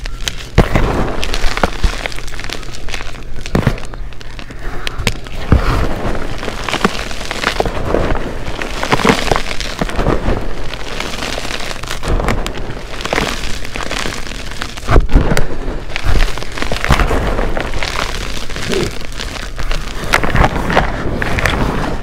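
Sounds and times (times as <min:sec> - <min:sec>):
chalk crunching under a hand: 0:00.0 - 0:22.0.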